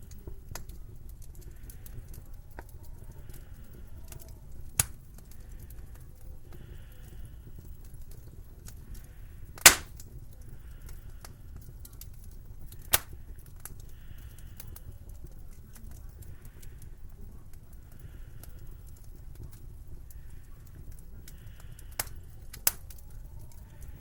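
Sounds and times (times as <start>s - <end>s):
wood fire crackling: 0.0s - 24.0s
wood fire popping: 0.0s - 24.0s.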